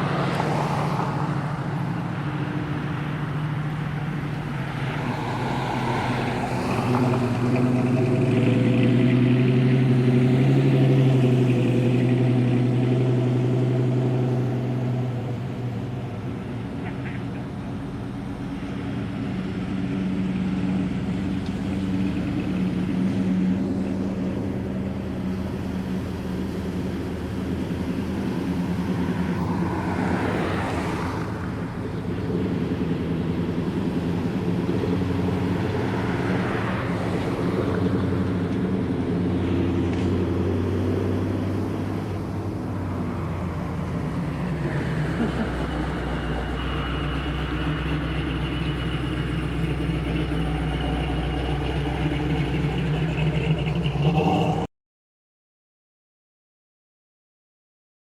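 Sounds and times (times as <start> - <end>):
car engines droning: 0.0 - 54.7.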